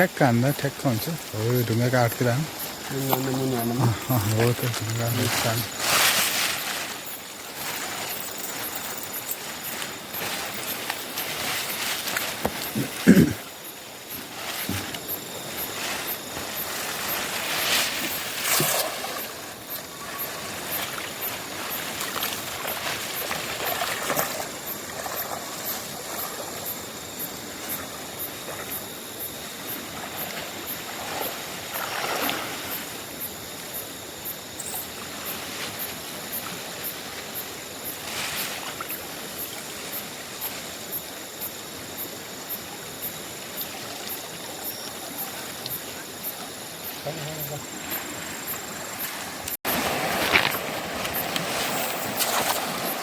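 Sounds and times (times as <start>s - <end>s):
river water flowing over stones: 0.8s - 34.1s, 38.7s - 53.0s.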